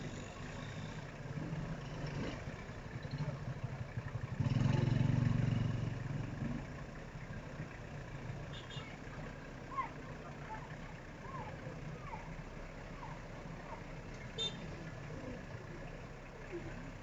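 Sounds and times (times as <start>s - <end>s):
low pulsing engine-like rumble: 0.0s - 4.4s, 5.2s - 17.0s.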